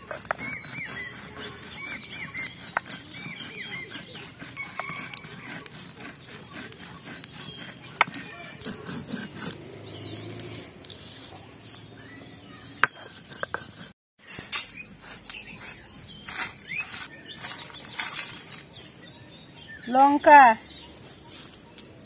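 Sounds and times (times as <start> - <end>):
stone roller grinding seeds: 0.0 - 11.9, 12.6 - 18.8.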